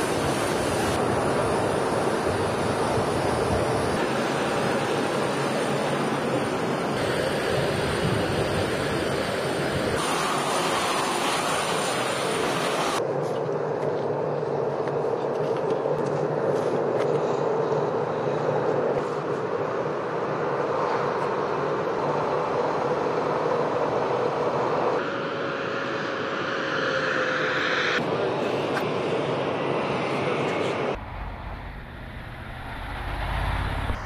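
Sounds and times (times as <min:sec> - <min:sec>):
heavy vehicle and aircraft engines: 0:00.0 - 0:34.0.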